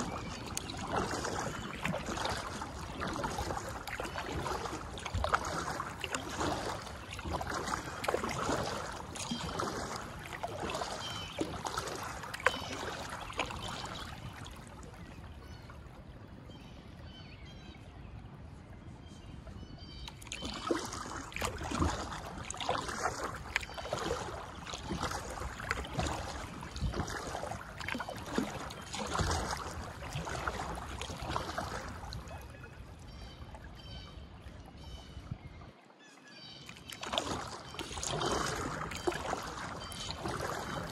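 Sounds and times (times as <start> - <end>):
kayak paddle strokes splashing: 0.0 - 17.2, 19.1 - 35.4, 36.0 - 40.9.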